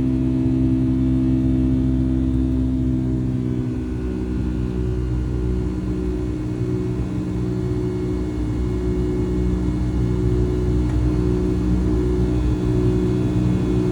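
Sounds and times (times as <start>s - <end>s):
jet engine drone in cabin: 0.0s - 13.9s.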